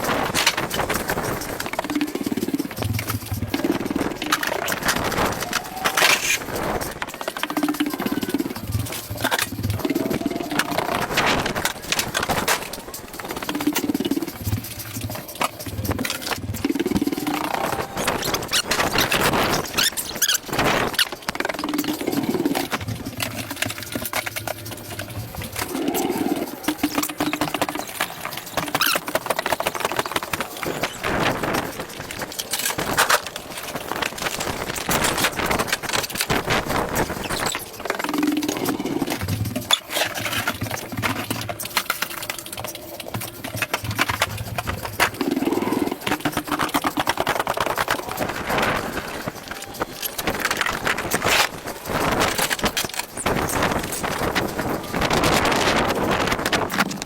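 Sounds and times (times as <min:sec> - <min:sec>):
knocks and rustling of items: 0:00.0 - 0:57.0.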